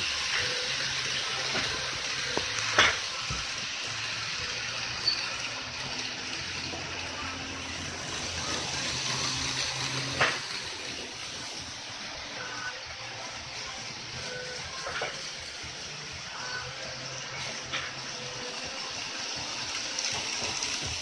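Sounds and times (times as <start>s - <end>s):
model trains rushing hiss: 0.0s - 21.0s.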